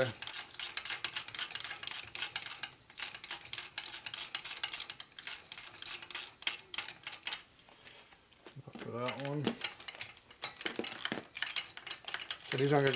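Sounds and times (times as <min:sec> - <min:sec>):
hand ratchet clicking: 0:00.0 - 0:07.4, 0:09.0 - 0:12.9.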